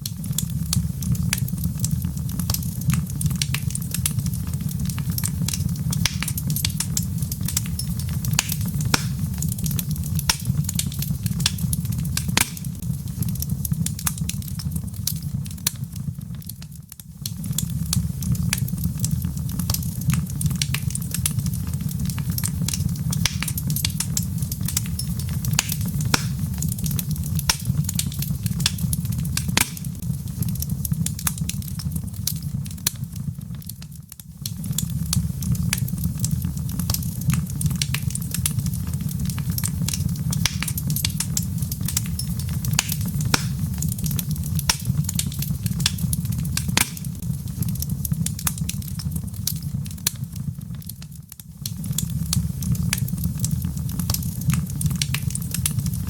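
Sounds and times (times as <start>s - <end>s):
logs crackling in fireplace: 0.0s - 56.0s.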